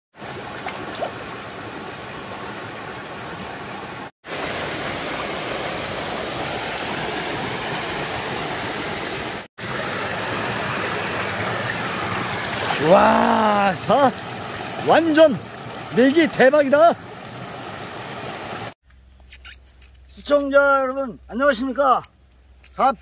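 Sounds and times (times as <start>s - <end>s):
stream rushing over rocks: 0.2s - 18.8s.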